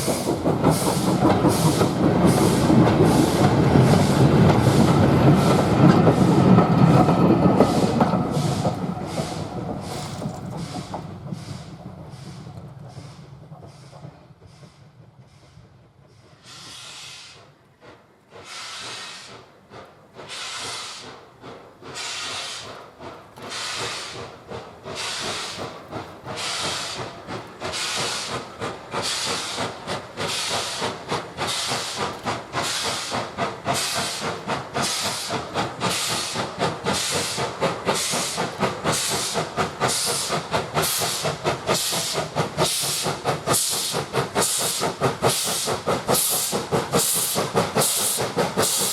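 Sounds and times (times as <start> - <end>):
steam locomotive chuffing: 0.0 - 48.9.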